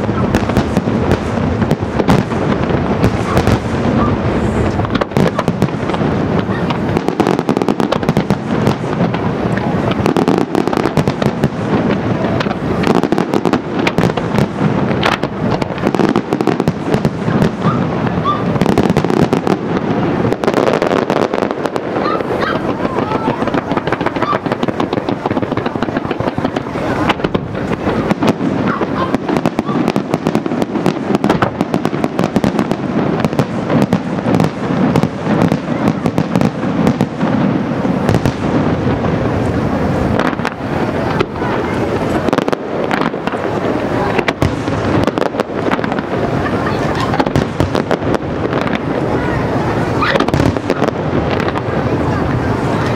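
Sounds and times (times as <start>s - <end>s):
firework shells bursting: 0.0s - 52.9s.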